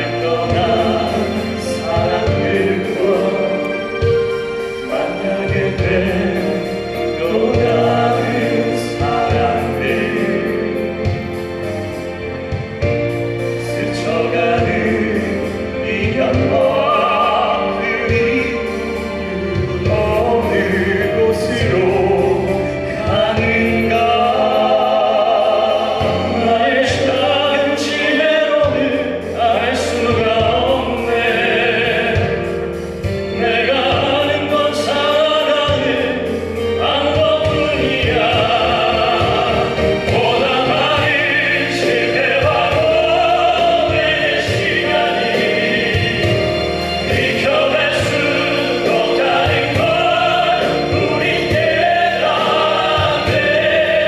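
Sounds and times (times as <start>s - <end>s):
instrumental accompaniment: 0.0s - 54.0s
male vocal ensemble singing: 0.0s - 54.0s.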